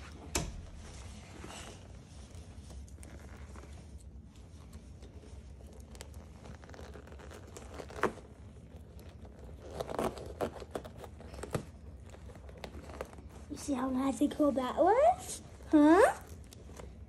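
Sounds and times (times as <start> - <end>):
boxing gloves rustling and scraping: 0.0 - 17.0.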